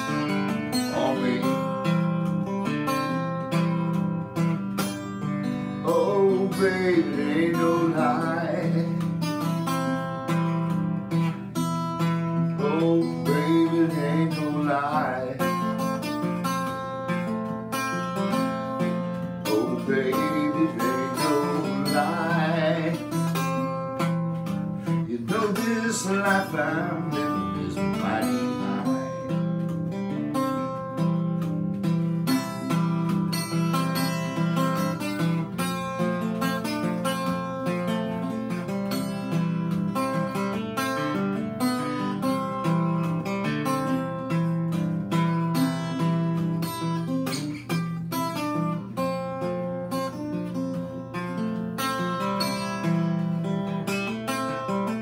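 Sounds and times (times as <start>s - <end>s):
fingerpicked acoustic guitar: 0.0s - 55.0s.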